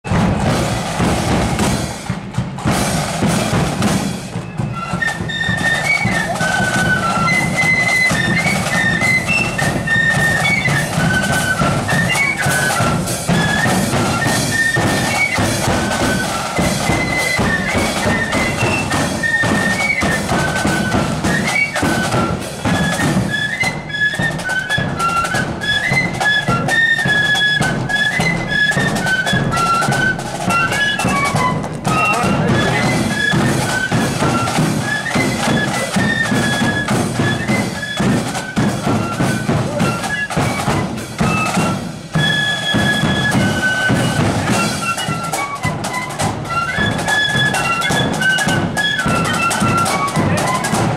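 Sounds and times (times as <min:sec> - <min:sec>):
snare and bass drums: 0:00.0 - 0:50.9
flutes playing quick melody: 0:00.1 - 0:50.9.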